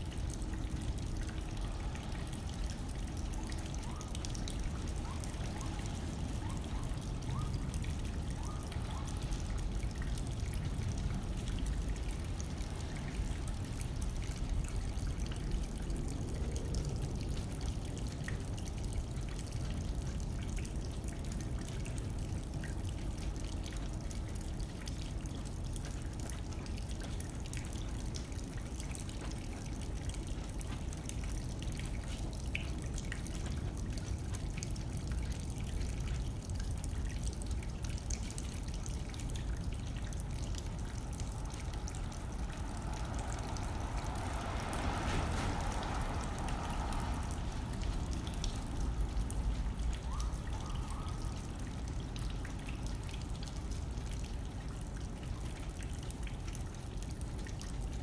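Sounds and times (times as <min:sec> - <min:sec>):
light wind: 0:00.0 - 0:58.0
rain hitting a window: 0:00.0 - 0:58.0.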